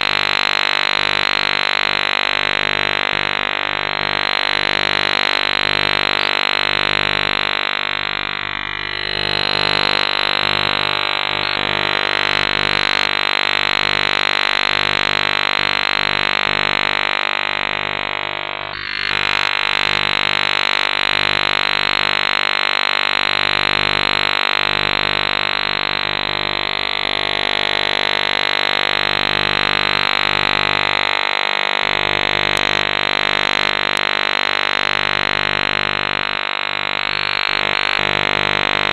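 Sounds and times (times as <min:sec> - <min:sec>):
harsh humming electronic tone: 0:00.0 - 0:38.9.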